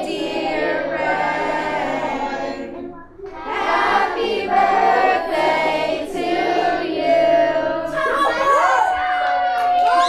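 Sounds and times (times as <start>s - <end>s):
children singing together: 0.0s - 8.4s.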